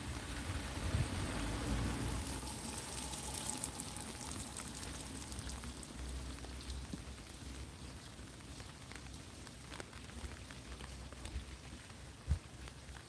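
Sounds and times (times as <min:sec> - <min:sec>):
rain on an umbrella: 0:00.0 - 0:13.0.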